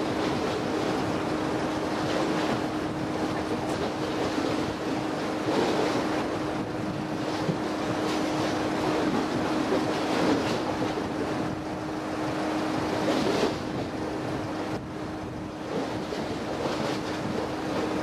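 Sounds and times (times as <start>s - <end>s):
ship engine low hum: 0.0s - 18.0s
water sloshing: 0.0s - 18.0s
wind buffeting microphone: 0.0s - 18.0s.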